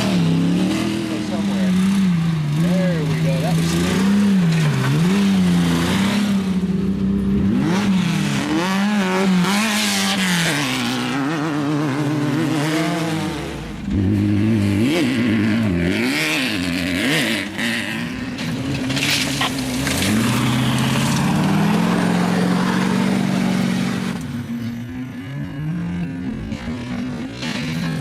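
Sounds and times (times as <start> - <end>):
vehicle engine revving: 0.0 - 28.0.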